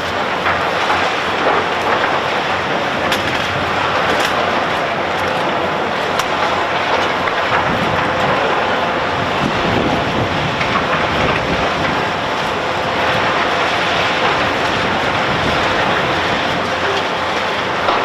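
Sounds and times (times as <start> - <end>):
construction machinery: 0.0 - 18.0.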